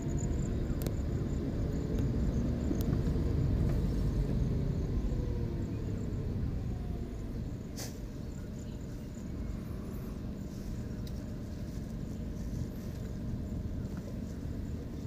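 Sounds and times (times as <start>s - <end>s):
car cabin engine and tyre rumble: 0.0s - 15.0s.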